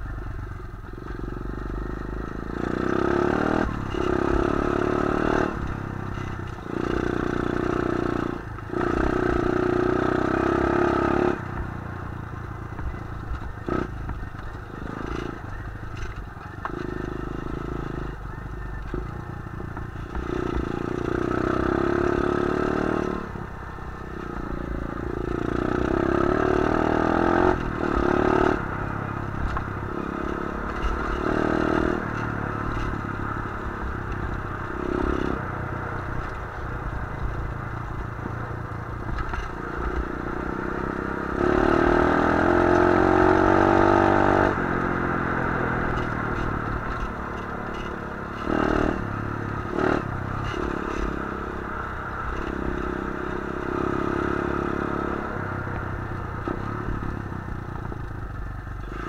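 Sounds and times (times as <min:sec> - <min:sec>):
motorbike engine revving: 0:00.9 - 0:11.6, 0:12.8 - 0:59.0.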